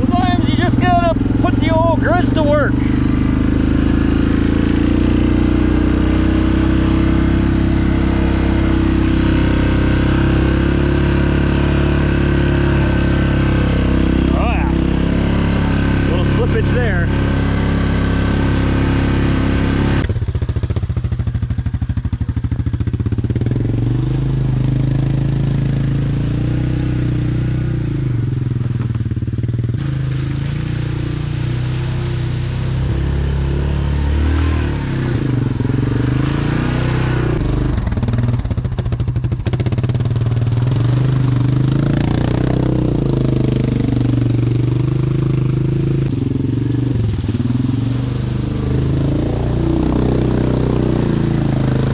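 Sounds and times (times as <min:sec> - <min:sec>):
engine revving under load: 0:00.0 - 0:20.2, 0:23.0 - 0:51.9.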